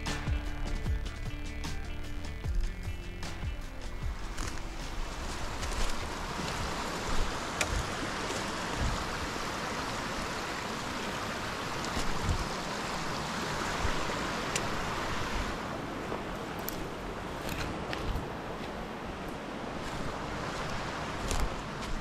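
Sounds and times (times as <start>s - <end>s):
creek babbling over rocks: 4.1s - 22.0s.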